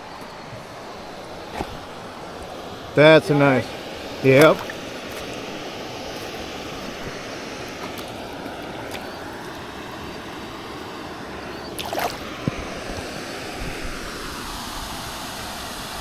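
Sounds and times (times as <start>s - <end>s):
water rushing below dam: 0.0s - 16.0s.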